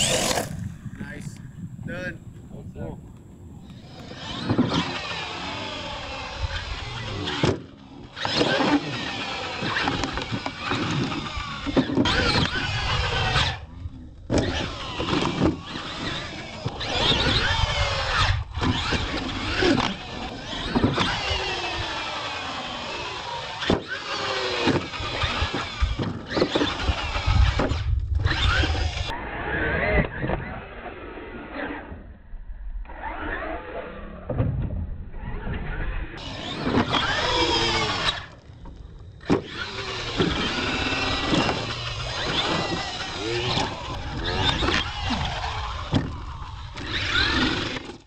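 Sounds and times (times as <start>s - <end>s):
electric motors and gears whining: 0.0s - 48.0s.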